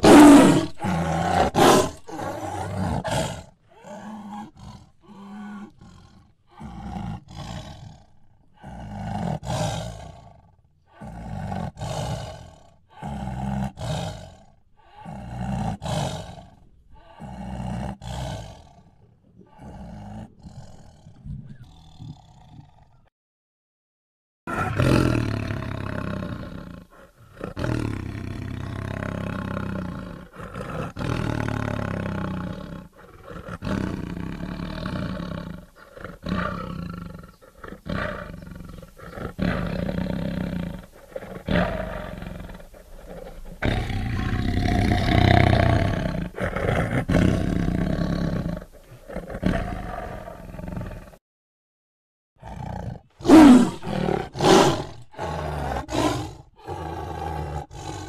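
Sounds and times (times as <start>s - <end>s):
tiger roaring: 0.0s - 23.1s, 24.5s - 51.2s, 52.4s - 58.0s.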